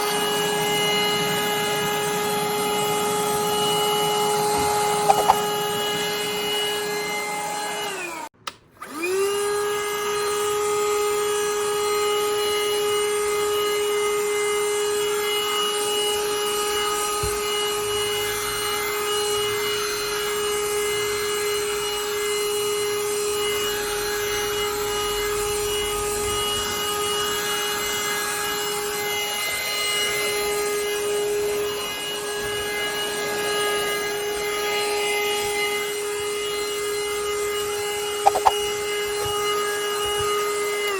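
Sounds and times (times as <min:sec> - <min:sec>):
handheld vacuum cleaner whining: 0:00.0 - 0:40.9.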